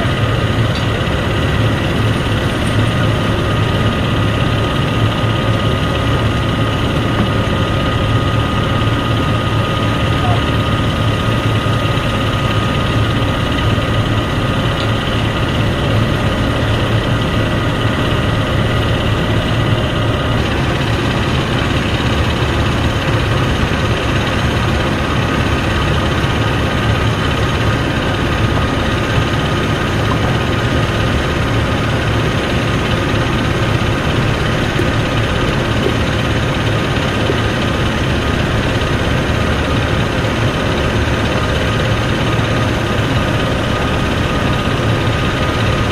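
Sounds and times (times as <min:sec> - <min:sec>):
heavy engine humming: 0:00.0 - 0:45.9
thin steady whine: 0:00.0 - 0:45.9.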